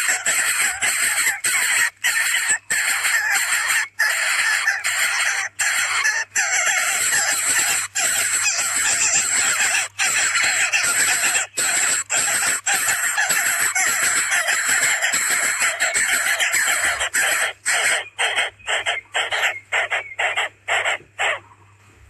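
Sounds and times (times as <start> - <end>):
nestlings raspy begging calls: 0.0 - 21.8.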